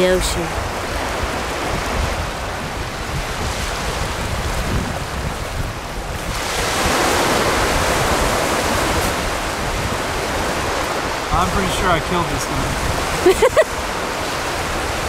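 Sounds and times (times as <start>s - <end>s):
surf rushing: 0.0s - 15.0s
wind buffeting microphone: 0.0s - 15.0s.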